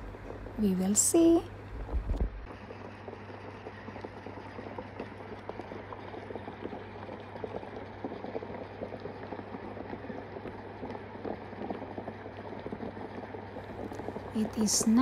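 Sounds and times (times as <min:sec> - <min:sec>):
hot pot bubbling: 0:00.0 - 0:15.0.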